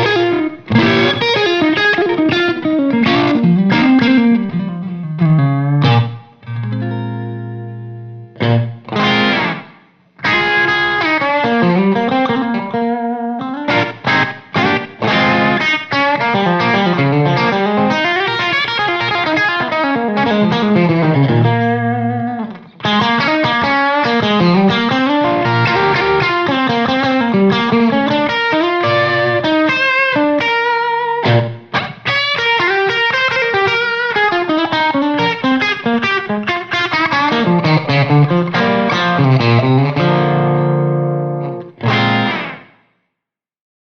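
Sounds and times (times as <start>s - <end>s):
fuzz-distorted electric guitar: 0.0s - 42.8s.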